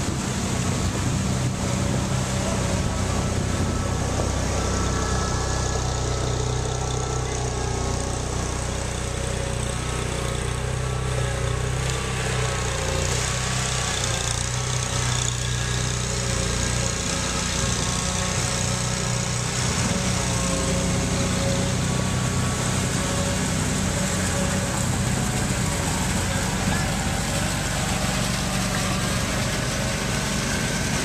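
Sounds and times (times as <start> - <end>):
small vehicle engines running: 0.0 - 31.0
vehicles driving through muddy water: 0.0 - 31.0.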